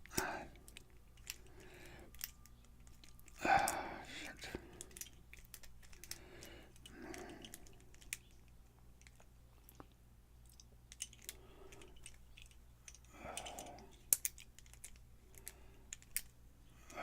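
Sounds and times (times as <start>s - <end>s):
small metallic clicks and scrapes: 0.0s - 17.0s.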